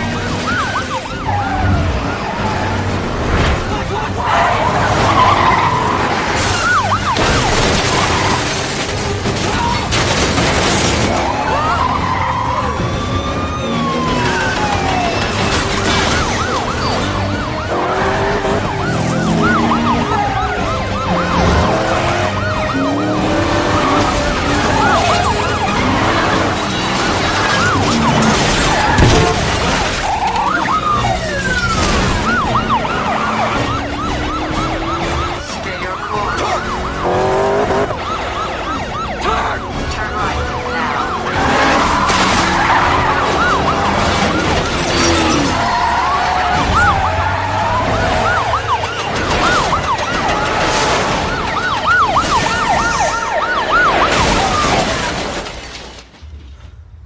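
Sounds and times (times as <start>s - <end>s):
police sirens wailing: 0.0s - 56.1s
car engines: 0.0s - 57.0s.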